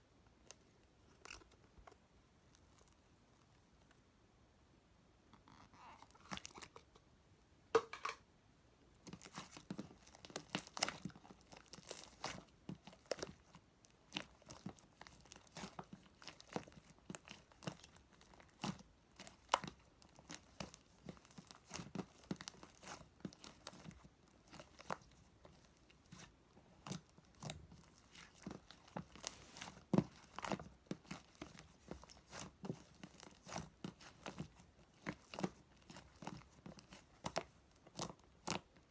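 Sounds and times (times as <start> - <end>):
crinkling and crackling: 0.2 - 4.0, 5.3 - 7.0, 9.0 - 38.9.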